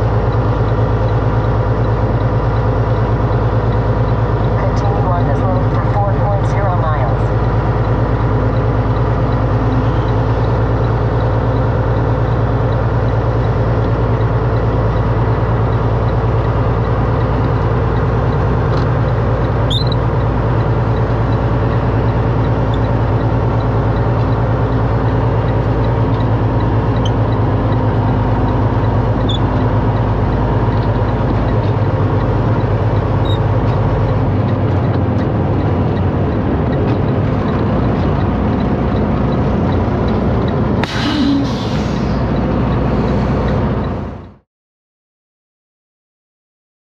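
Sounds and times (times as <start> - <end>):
diesel truck engine running: 0.0 - 44.4.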